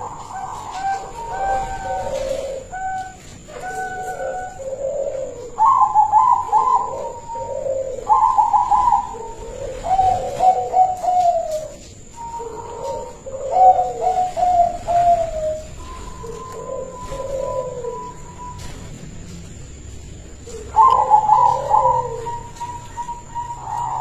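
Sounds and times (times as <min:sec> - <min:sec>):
dove deep coos: 0:00.0 - 0:24.0
dove stuttering notes: 0:00.0 - 0:24.0.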